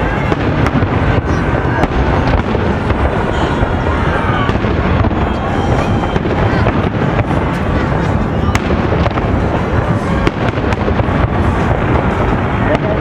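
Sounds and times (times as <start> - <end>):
fireworks bursting and crackling: 0.0 - 13.0
sharp firework bangs: 0.0 - 13.0.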